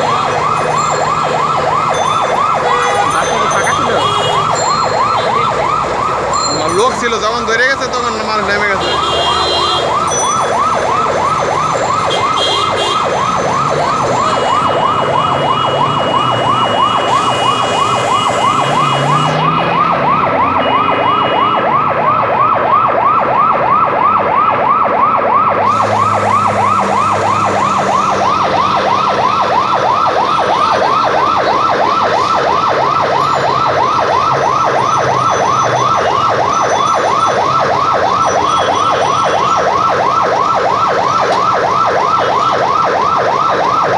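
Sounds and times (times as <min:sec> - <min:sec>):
fire engine siren yelping: 0:00.0 - 0:43.9
traffic noise: 0:00.0 - 0:43.9.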